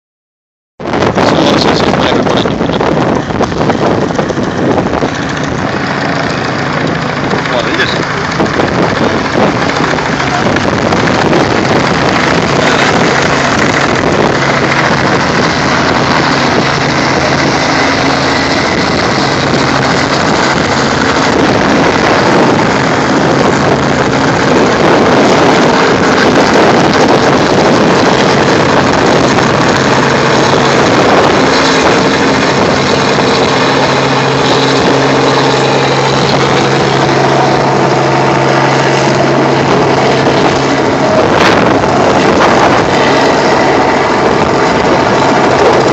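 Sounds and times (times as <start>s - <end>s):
helicopter engine and rotor: 0.8s - 45.9s.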